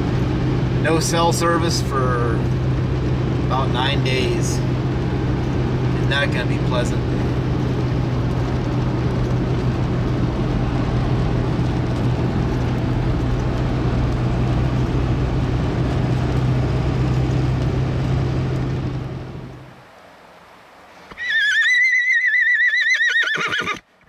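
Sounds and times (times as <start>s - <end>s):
car engine hum: 0.0s - 21.2s
road noise: 0.0s - 24.0s.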